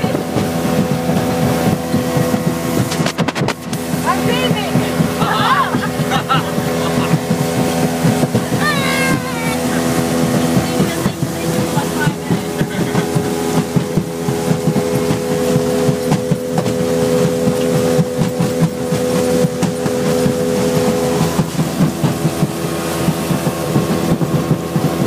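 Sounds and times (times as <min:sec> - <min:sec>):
outboard engine running: 0:00.0 - 0:25.0
water rushing: 0:00.0 - 0:25.0.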